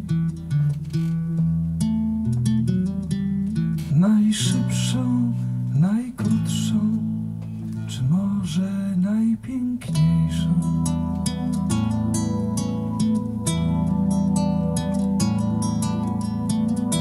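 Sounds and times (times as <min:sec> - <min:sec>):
nylon-string guitar plucked: 0:00.0 - 0:17.0.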